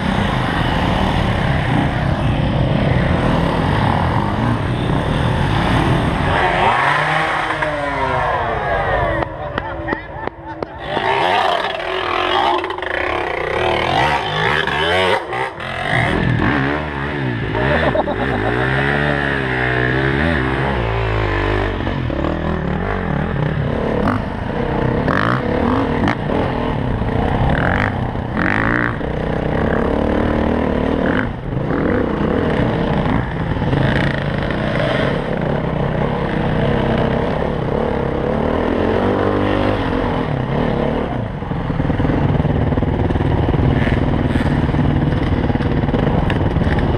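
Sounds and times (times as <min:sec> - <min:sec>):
dirt bike engine revving: 0:00.0 - 0:09.3, 0:10.6 - 0:46.9.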